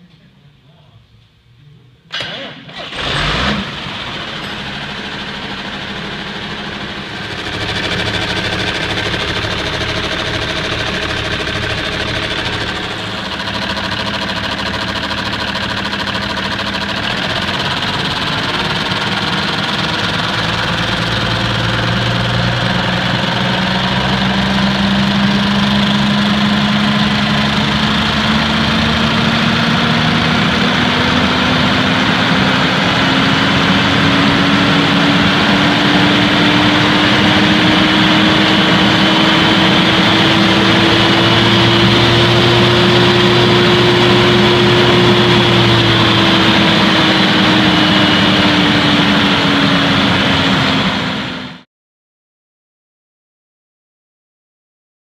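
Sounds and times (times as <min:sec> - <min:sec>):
diesel engine speeding up: 0:02.1 - 0:51.7.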